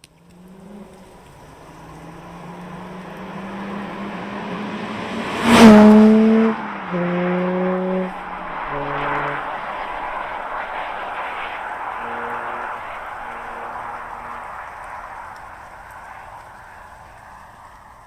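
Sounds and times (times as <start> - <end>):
gear upshifts: 0.0 - 18.0
car passing and accelerating: 0.1 - 18.0.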